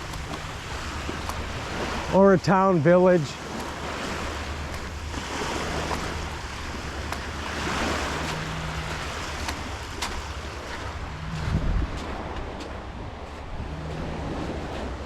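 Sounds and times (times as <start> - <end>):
wind buffeting microphone: 0.0 - 2.2, 3.3 - 15.0
small waves washing on sand: 0.0 - 15.0.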